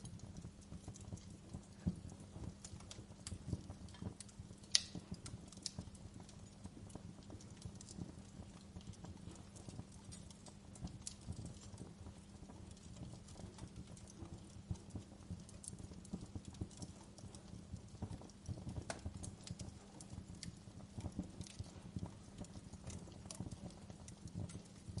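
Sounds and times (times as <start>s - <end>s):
firewood crackling and popping: 0.0s - 25.0s
low rumble of flames: 0.0s - 25.0s.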